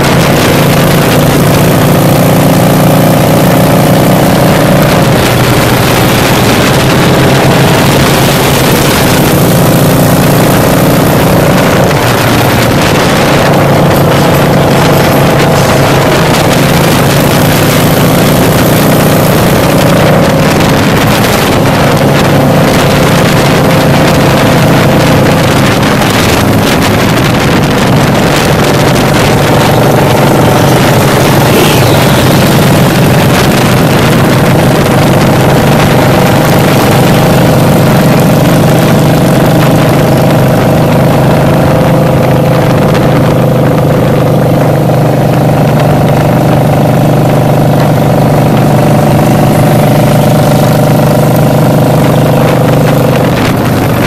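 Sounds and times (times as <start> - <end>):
car engine cruising: 0.0 - 54.0
wind rushing over microphone: 0.0 - 54.0.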